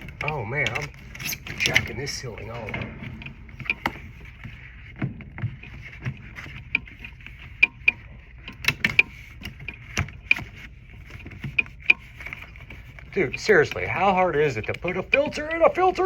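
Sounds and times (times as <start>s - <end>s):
knocks taps and scraping: 0.0s - 16.0s.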